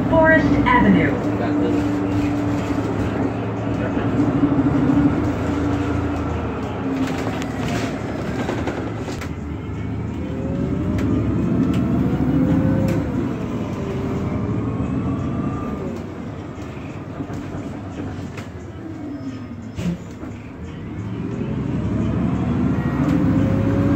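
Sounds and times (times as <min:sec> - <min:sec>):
bus engine whining: 0:00.0 - 0:23.9.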